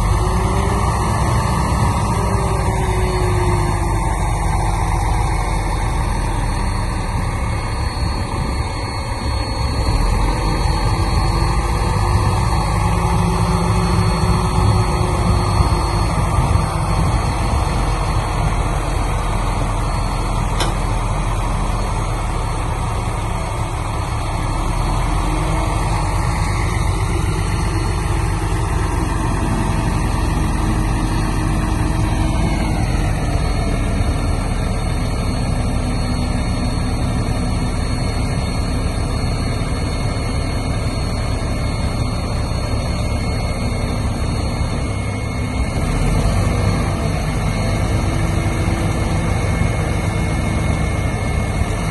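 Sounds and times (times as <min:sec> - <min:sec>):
diesel earthmoving machinery running: 0:00.0 - 0:51.9
high tone sliding down: 0:00.0 - 0:51.9.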